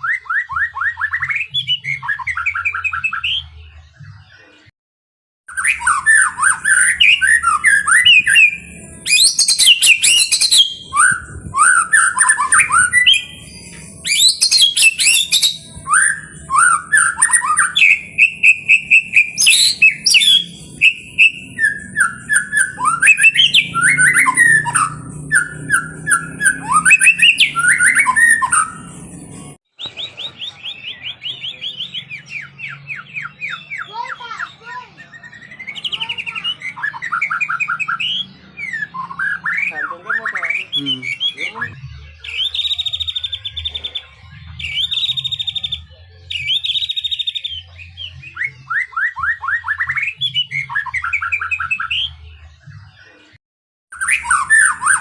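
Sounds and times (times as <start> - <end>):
bird singing whistled phrases: 0.0 - 3.6, 5.5 - 52.2, 53.9 - 55.0.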